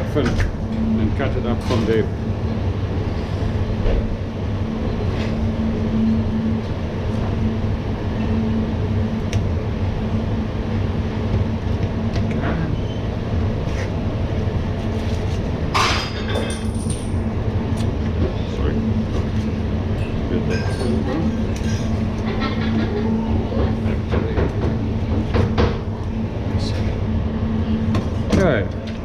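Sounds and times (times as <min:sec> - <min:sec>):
ventilation hum: 0:00.0 - 0:29.0.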